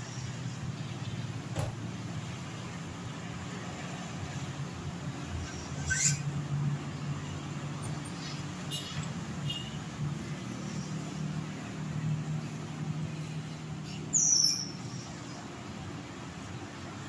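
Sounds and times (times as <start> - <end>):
traffic engine hum: 0.0 - 17.0.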